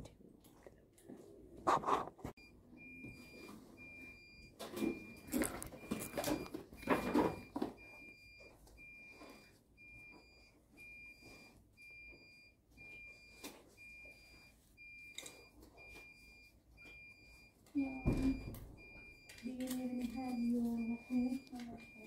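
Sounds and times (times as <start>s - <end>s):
electronic alarm beeping: 2.4s - 22.0s.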